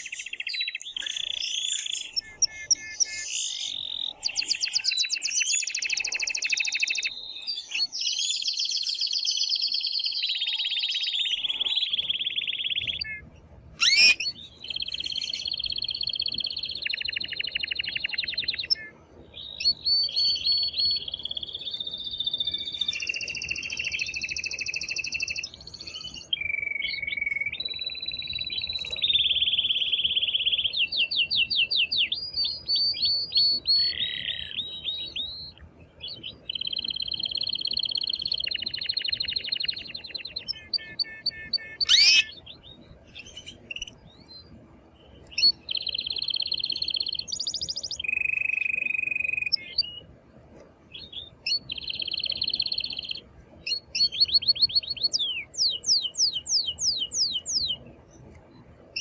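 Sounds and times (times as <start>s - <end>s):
canary singing trills: 0.0s - 50.1s, 50.8s - 58.3s.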